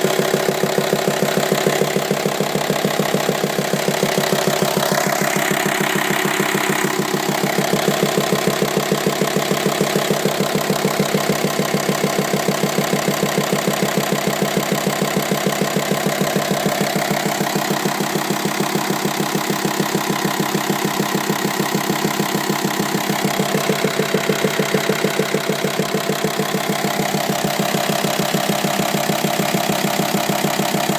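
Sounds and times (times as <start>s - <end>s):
engine idling: 0.0s - 30.9s
engine knocking: 0.0s - 30.9s.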